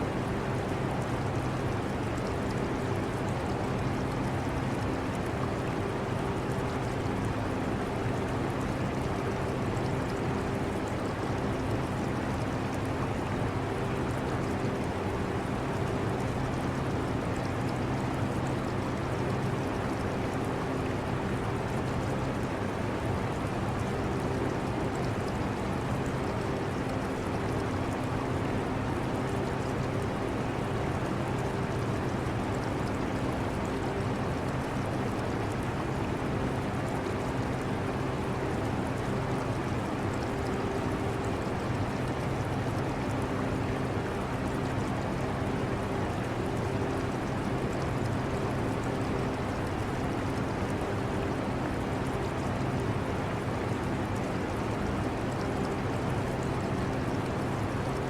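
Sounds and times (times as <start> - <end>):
aquarium water trickling: 0.1 - 58.0.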